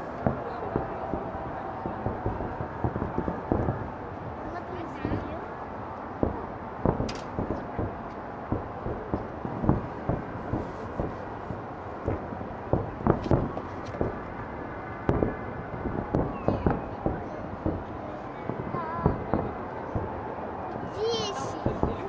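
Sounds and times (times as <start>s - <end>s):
faint fireworks whistles: 0.0s - 22.0s.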